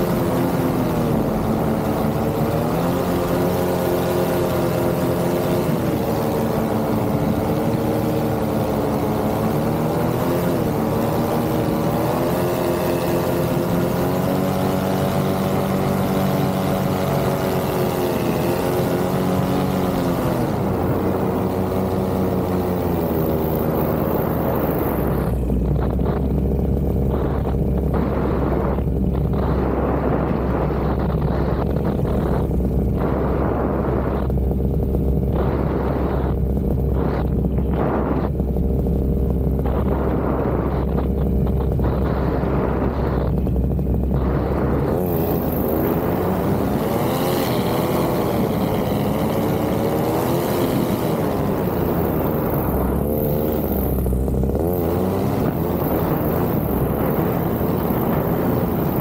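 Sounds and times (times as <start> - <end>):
paramotor engine and propeller droning: 0.0 - 59.0
wind rumble on microphone: 0.0 - 59.0.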